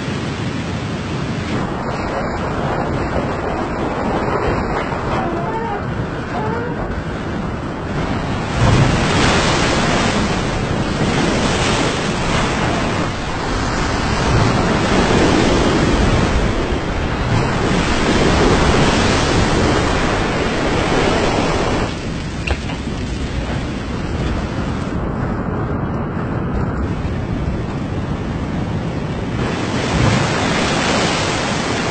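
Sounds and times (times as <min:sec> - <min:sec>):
storm wind rushing: 0:00.0 - 0:31.9
surf: 0:00.0 - 0:31.9.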